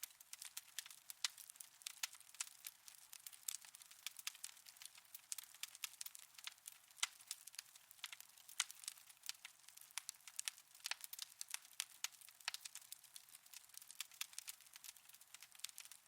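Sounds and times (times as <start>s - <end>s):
soft hiss: 0.0s - 12.9s
wood fire crackling: 0.0s - 16.0s.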